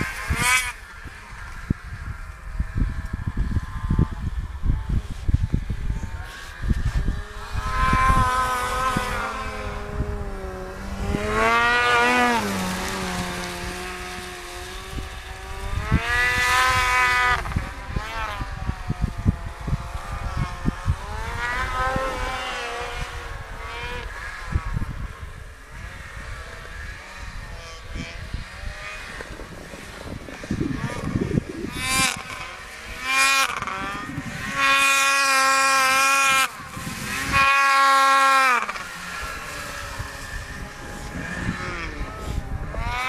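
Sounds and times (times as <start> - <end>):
snowmobile engines revving: 0.0 - 43.0
wind buffeting microphone: 0.0 - 43.0.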